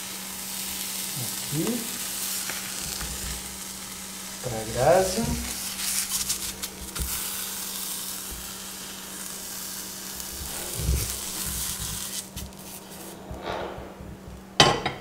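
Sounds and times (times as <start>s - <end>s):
cheese sizzling in a frying pan: 0.0s - 13.2s.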